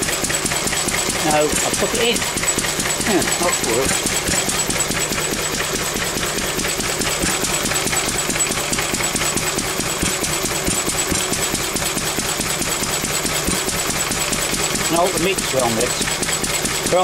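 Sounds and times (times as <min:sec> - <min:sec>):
stationary engine running: 0:00.0 - 0:17.0.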